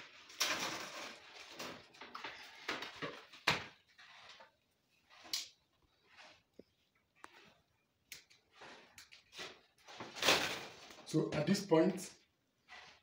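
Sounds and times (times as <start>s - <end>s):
cables scraping through conduit: 0.1s - 13.0s.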